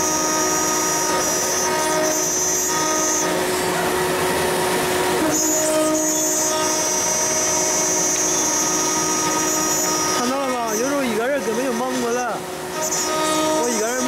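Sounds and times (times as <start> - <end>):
end mill cutting metal: 0.0 - 14.0
router spindle whine: 0.0 - 14.0.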